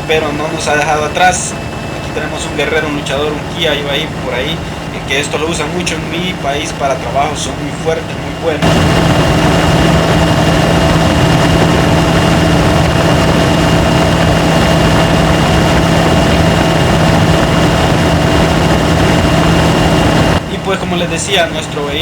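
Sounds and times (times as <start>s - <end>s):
diesel engine droning under load: 0.0s - 22.0s.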